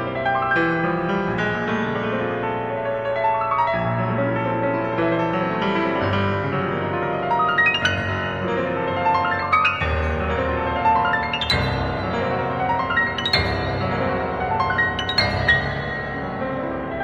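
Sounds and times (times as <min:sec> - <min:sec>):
solo piano playing: 0:00.0 - 0:17.0.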